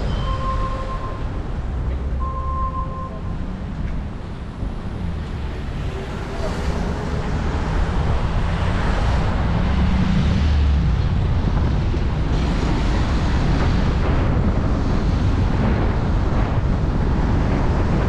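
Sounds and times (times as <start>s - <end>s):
low rumble of road noise: 0.0s - 18.0s
wind rushing over microphone: 0.0s - 18.0s.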